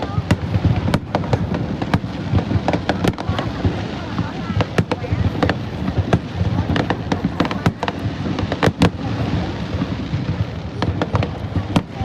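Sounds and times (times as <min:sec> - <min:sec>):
fireworks bangs and crackles: 0:00.0 - 0:12.0
low rumble of explosions: 0:00.0 - 0:12.0.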